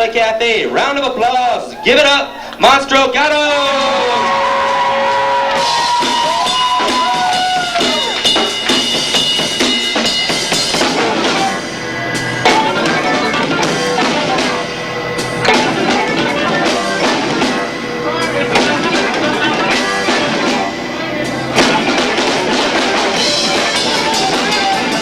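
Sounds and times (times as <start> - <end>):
sliding guitar tones: 0.0 - 25.0
dense drumming: 3.5 - 25.0
live rock band: 3.7 - 25.0.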